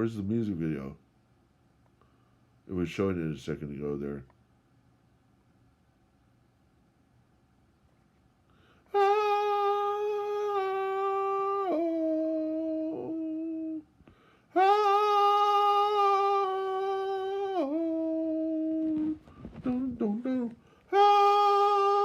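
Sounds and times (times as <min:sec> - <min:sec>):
steady humming tone: 0:00.0 - 0:22.0.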